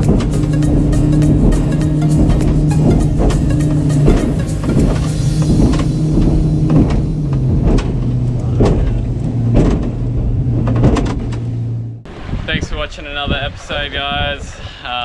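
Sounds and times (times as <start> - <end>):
outboard motor running: 0.0 - 12.2
hull slapping water: 0.0 - 13.8.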